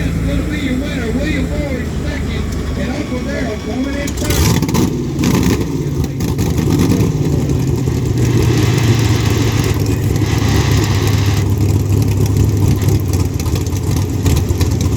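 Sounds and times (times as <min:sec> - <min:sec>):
loud engine idling: 0:00.0 - 0:14.9.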